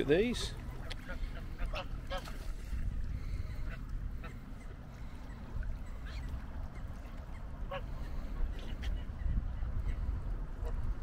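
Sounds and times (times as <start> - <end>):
wind rumble on microphone: 0.6 - 11.0.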